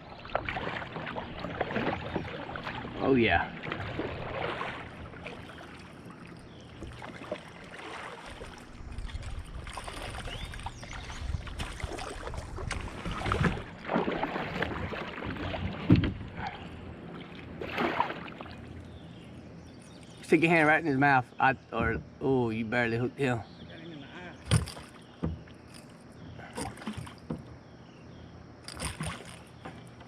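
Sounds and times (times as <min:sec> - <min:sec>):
water splashing and sloshing: 0:00.0 - 0:20.8, 0:24.4 - 0:30.0.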